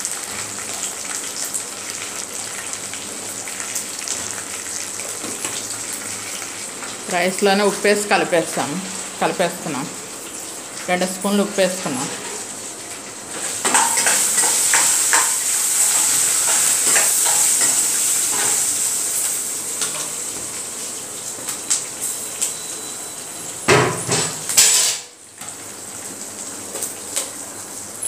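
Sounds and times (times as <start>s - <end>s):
oil sizzling in a pan: 0.0s - 28.0s.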